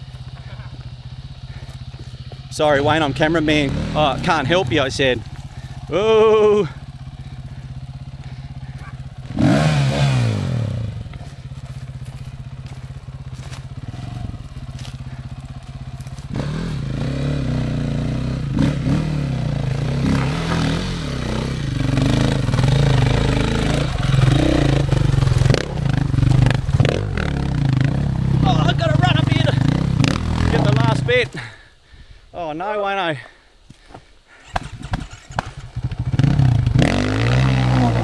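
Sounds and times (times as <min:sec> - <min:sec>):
motorcycle engine idling and revving: 0:00.0 - 0:31.6, 0:34.3 - 0:38.0.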